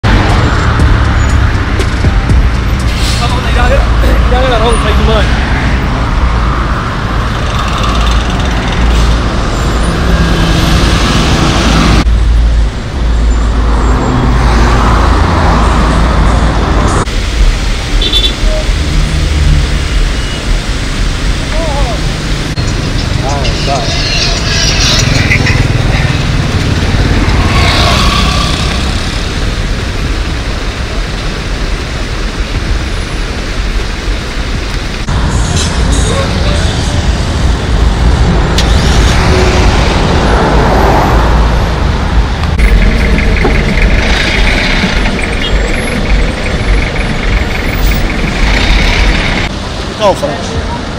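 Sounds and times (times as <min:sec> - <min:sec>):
traffic jam engines rumbling: 0:00.0 - 0:50.9.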